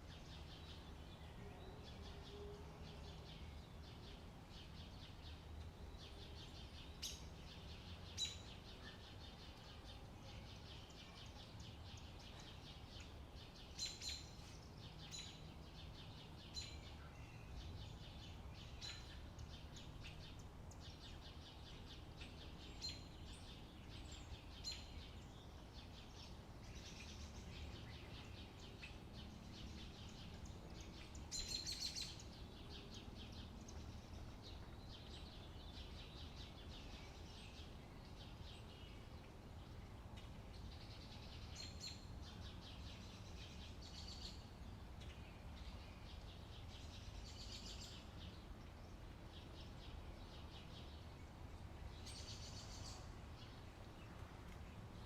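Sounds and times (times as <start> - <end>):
birds chirping and trilling: 0.0 - 54.1.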